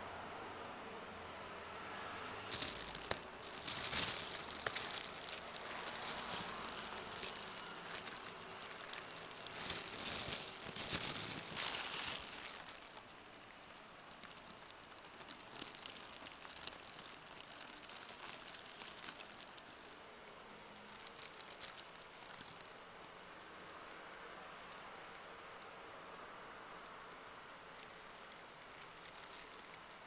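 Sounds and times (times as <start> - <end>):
crinkling and rustling handling noise: 2.5 - 25.8, 26.6 - 30.0.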